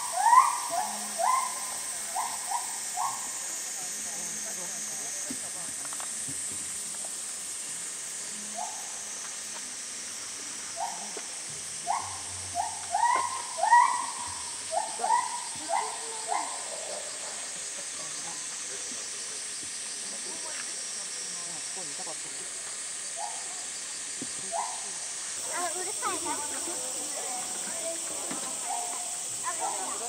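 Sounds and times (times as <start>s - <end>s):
cicadas hissing: 0.0s - 30.0s.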